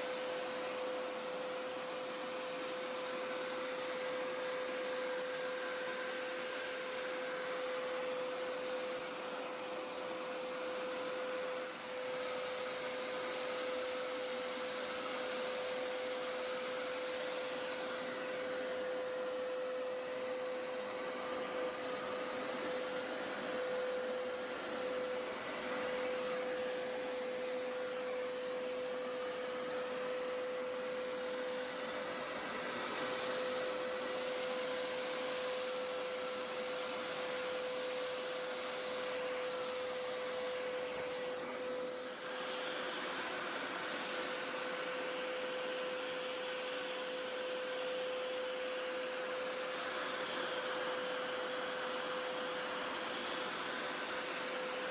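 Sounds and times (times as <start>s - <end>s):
carpet cleaner humming: 0.0s - 54.9s
faint high whine: 0.0s - 54.9s.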